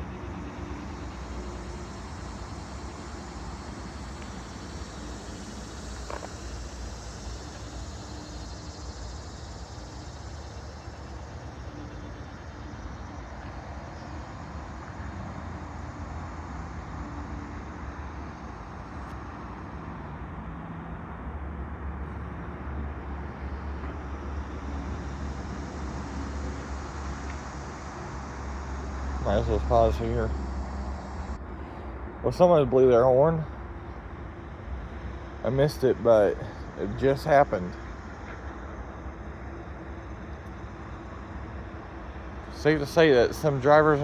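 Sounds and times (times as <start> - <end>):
faint steady tones: 0.0 - 20.6, 22.0 - 44.0
engines idling: 0.0 - 44.0.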